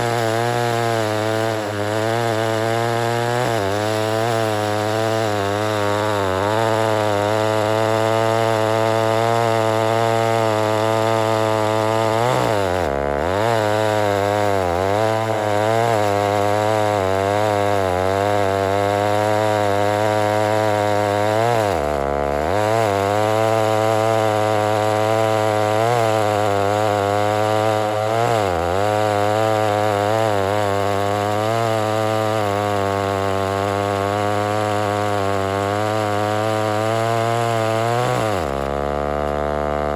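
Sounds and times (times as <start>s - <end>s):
chainsaw running loudly: 0.0s - 39.9s.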